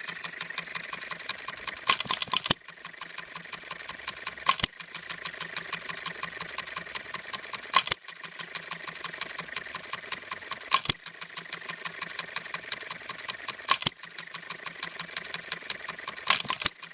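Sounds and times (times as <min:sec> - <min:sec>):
engine firing stroke: 0:00.0 - 0:16.9
hit-and-miss engine clicking: 0:00.0 - 0:16.9.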